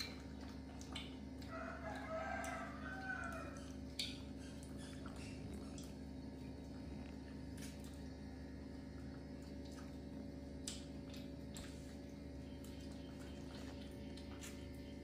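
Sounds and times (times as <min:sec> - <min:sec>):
eating clicks and squishes: 0:00.0 - 0:15.0
steady low hum: 0:00.0 - 0:15.0.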